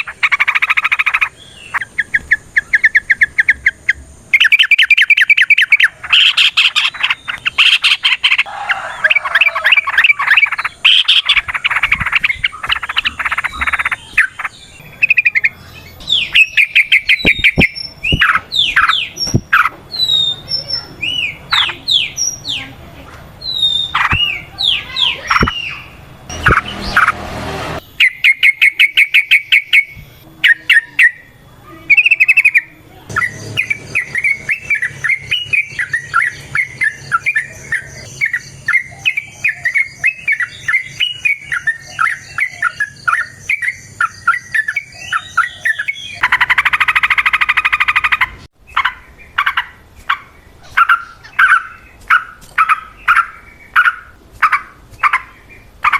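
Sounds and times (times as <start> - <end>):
harsh rasping bird call: 0.0 - 19.1, 23.4 - 49.8
bulbuls singing and chattering: 0.0 - 27.2, 27.8 - 55.9.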